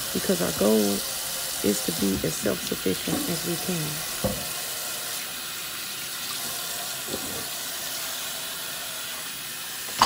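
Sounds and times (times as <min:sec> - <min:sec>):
dishes being rinsed: 0:00.0 - 0:10.0
faucet running into a metal sink: 0:00.0 - 0:10.0.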